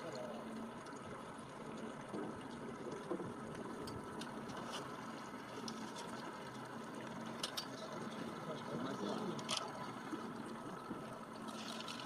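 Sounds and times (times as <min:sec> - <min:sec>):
faint constant hum: 0:00.0 - 0:12.0
rushing water: 0:00.0 - 0:12.0.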